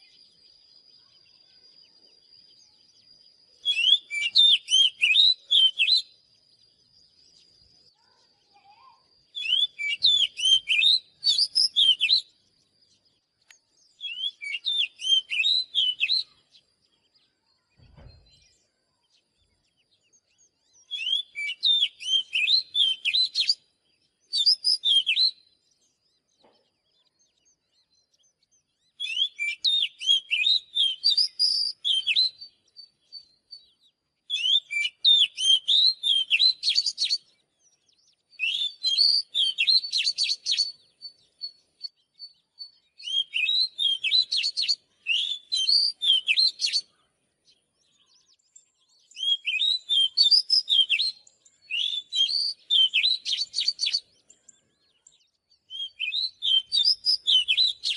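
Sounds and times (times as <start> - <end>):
bird singing whistled notes: 0.0 - 57.9.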